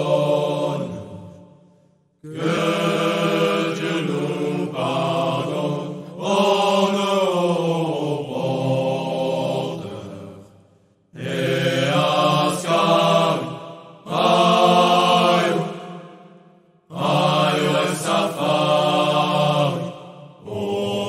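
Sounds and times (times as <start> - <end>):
slow chant-like singing: 0.0 - 21.0.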